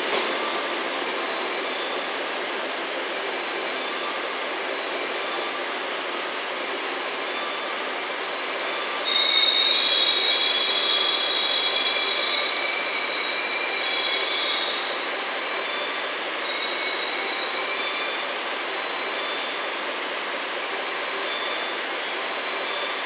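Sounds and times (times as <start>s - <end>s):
train rolling rumble: 0.0s - 23.0s
train wheels squealing on rails: 0.0s - 23.0s.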